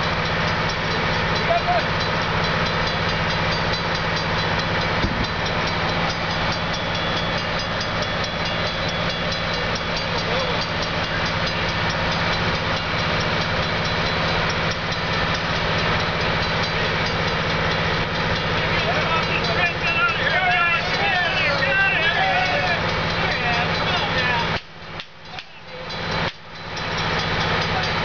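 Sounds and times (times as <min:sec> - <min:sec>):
diesel locomotive idling: 0:00.0 - 0:28.0.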